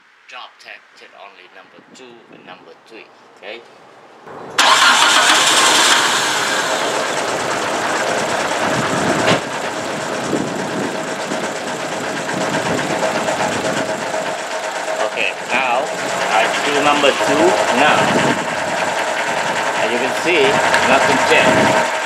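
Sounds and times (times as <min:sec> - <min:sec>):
car engine starting and idling rough: 0:04.3 - 0:22.0.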